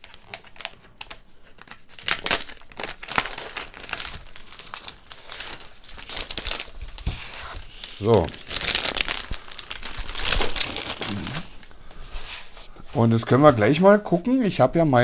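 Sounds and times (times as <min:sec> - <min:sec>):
plastic wrapping crinkling: 0:00.0 - 0:13.8.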